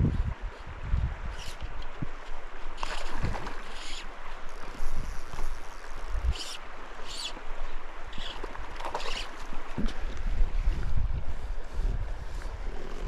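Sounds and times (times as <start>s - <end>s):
wind buffeting microphone: 0.0s - 8.8s, 9.5s - 13.0s
creek running over gravel: 0.0s - 13.0s.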